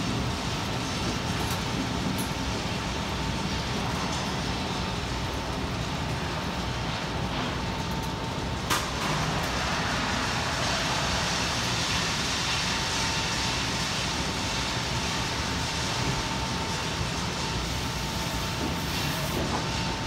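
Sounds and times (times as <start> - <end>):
press machinery running: 0.0 - 20.0.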